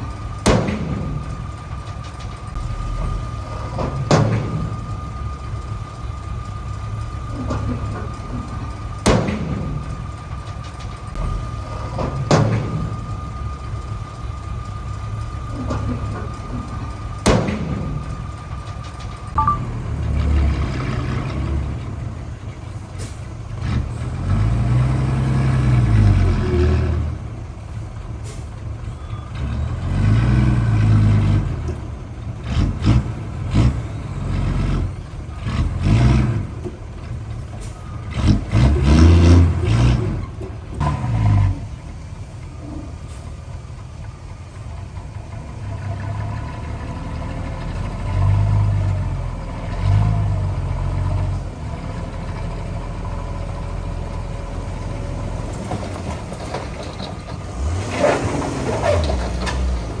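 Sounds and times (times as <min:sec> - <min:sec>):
heavy machinery diesel engines revving: 0:00.0 - 1:00.0.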